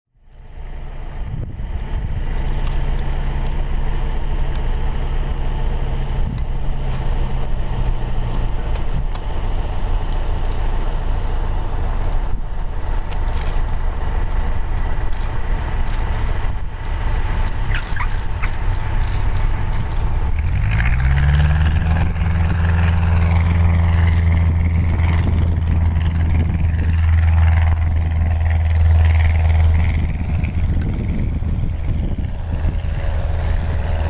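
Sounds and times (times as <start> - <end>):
propeller aircraft engine running: 0.1 - 34.0.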